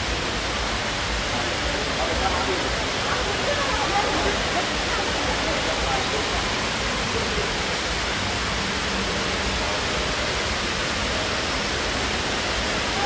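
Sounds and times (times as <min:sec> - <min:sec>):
water rushing down a wall: 0:00.0 - 0:13.0.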